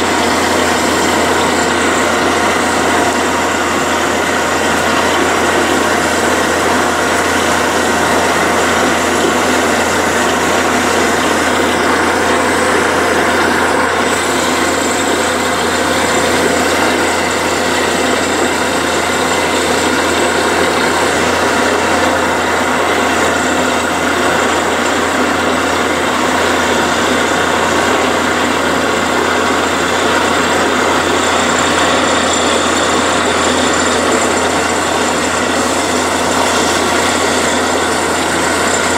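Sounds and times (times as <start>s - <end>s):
drilling rig drilling into rock: 0.0s - 38.9s.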